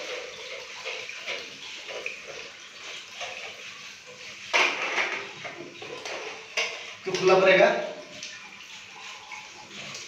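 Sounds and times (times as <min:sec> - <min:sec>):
water running: 0:00.0 - 0:10.0.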